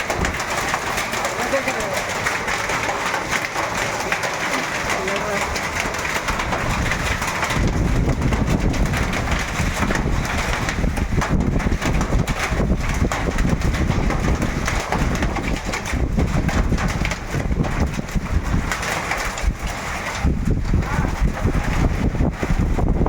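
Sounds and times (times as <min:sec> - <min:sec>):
hailstones and rain pelting: 0:00.0 - 0:23.0
wind rumble on microphone: 0:00.0 - 0:23.0.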